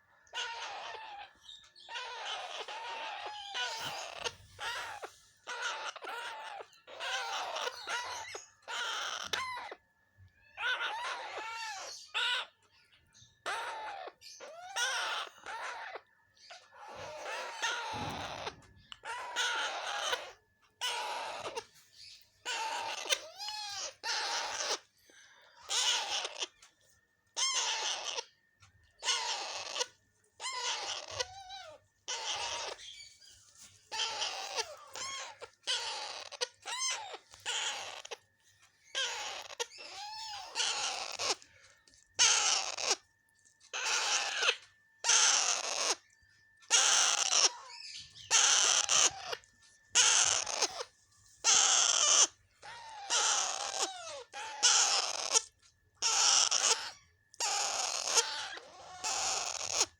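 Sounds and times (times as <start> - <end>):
parakeets calling: 0.0 - 59.9.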